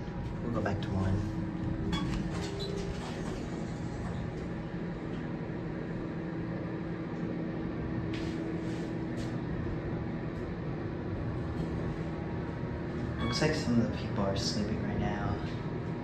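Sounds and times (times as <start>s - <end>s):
elevator humming: 0.0s - 16.0s.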